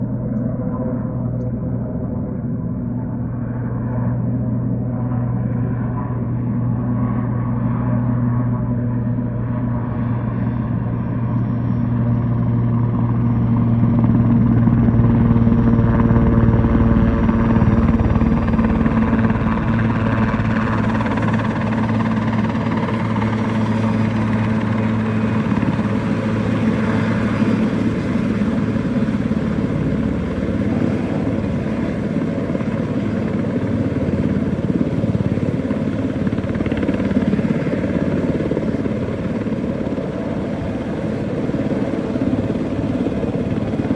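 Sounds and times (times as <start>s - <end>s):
helicopter flying overhead: 0.0s - 43.9s.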